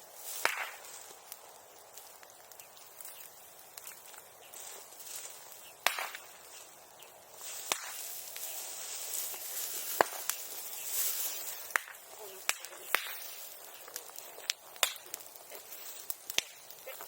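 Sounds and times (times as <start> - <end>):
bonfire crackling: 0.0 - 17.0
high hiss: 0.0 - 17.0
sharp pops from fire: 0.1 - 17.0.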